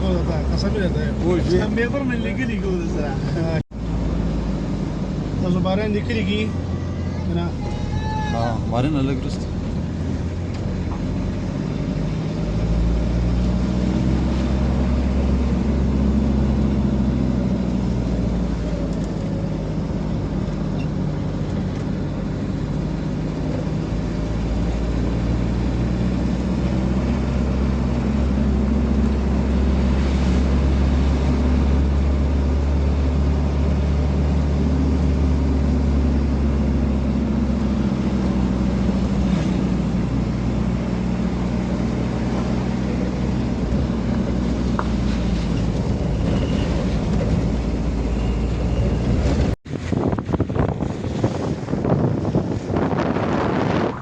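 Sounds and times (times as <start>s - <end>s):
faint road noise: 0.0s - 54.0s
vehicle engine humming: 0.0s - 54.0s.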